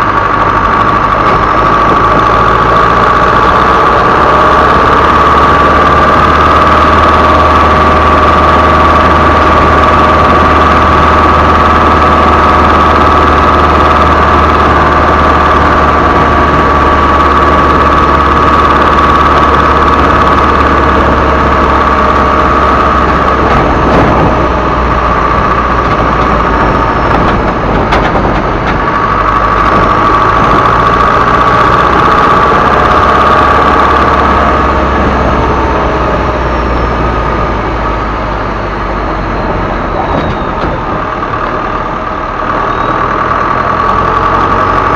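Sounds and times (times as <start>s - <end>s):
diesel engine drone: 0.0s - 44.9s.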